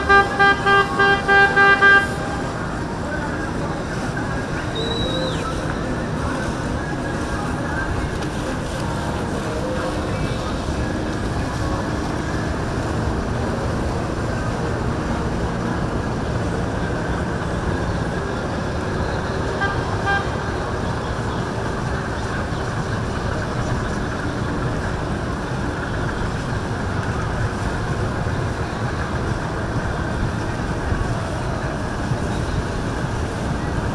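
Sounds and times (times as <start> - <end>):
motorboat engines running: 0.0 - 33.9.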